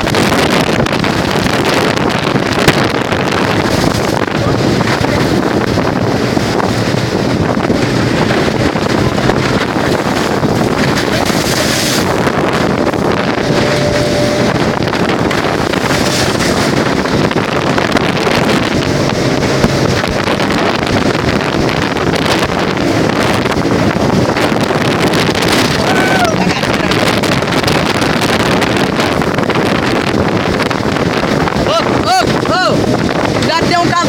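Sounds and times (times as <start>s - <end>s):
motorboat engine running: 0.0s - 34.0s
wind buffeting microphone: 0.0s - 34.0s.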